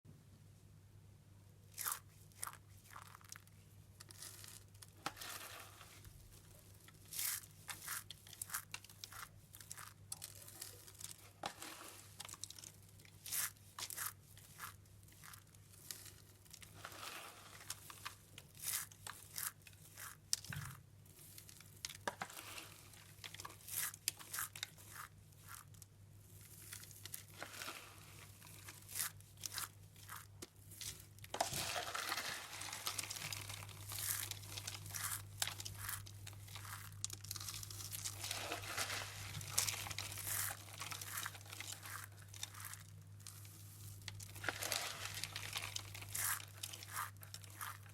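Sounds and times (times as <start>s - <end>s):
soap shavings crunching by hand: 1.7s - 47.9s.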